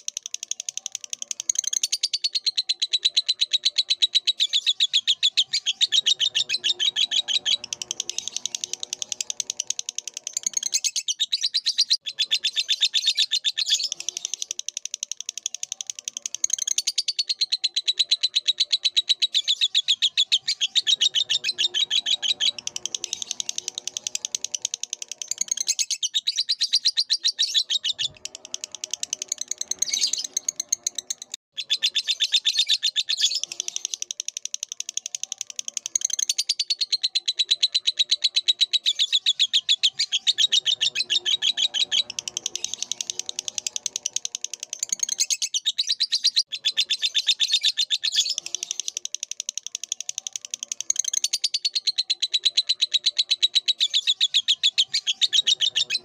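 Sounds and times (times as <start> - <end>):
lovebird chattering trill: 0.0 - 56.0.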